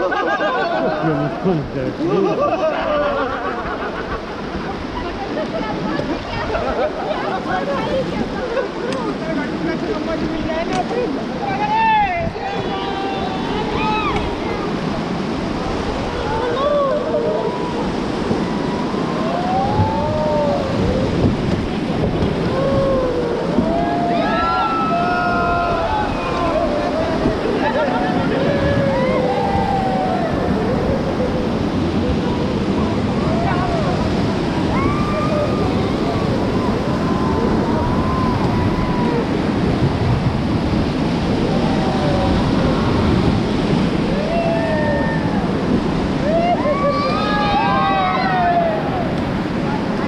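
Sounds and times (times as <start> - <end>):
river rapids rushing: 0.0 - 50.0
wind buffeting microphone: 0.0 - 50.0.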